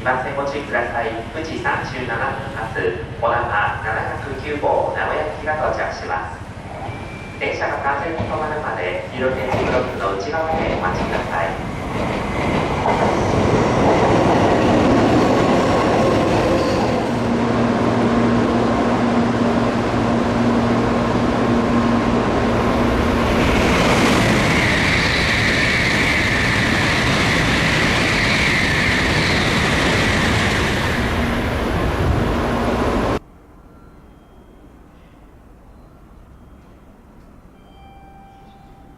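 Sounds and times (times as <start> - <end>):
train rushing along track: 0.0 - 33.2.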